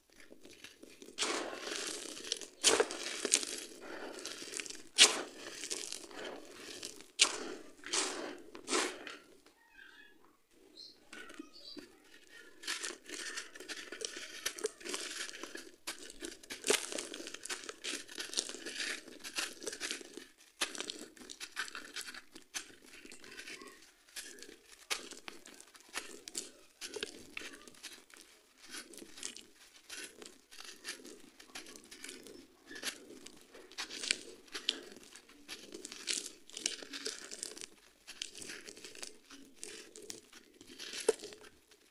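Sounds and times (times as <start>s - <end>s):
sand-cement mix crunching by hand: 0.0s - 9.4s, 10.8s - 41.9s.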